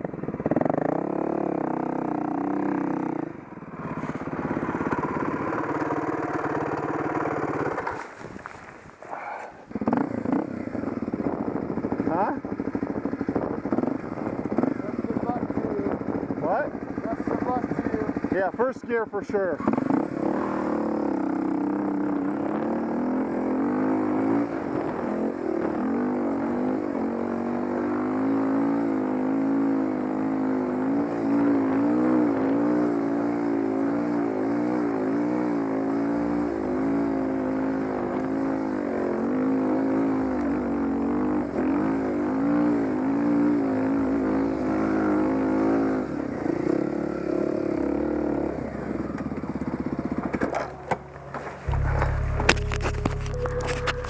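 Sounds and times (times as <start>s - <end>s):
dirt bike engine revving: 0.4s - 8.6s, 9.2s - 10.9s, 19.6s - 54.0s.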